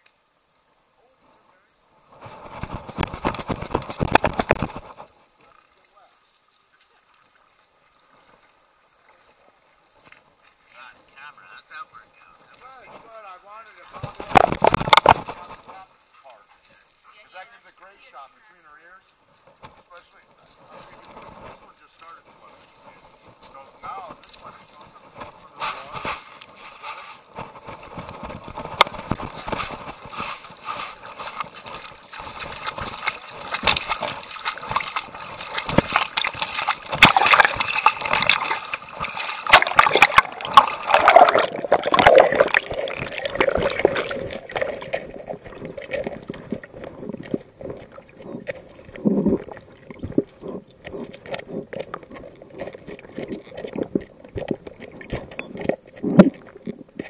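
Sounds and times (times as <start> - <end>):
water gurgling and sloshing: 1.9 - 16.3, 19.2 - 57.0.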